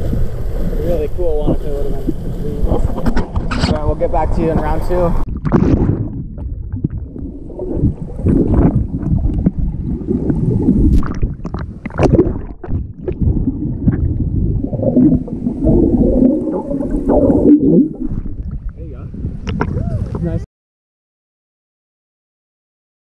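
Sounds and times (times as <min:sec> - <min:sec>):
muffled underwater gurgling: 0:00.0 - 0:20.4.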